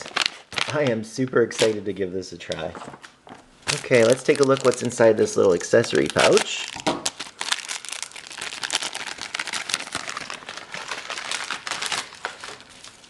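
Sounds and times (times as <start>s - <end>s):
plastic pouch crinkling: 0.0s - 1.8s, 3.6s - 13.0s.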